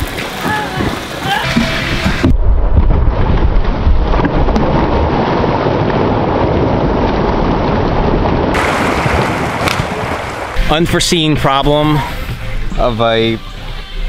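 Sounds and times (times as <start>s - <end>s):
slowed water splashing: 0.0s - 12.7s.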